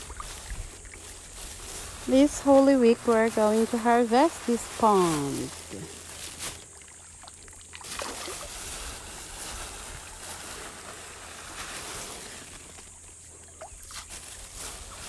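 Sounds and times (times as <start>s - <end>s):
pond water splashing: 0.0s - 15.0s.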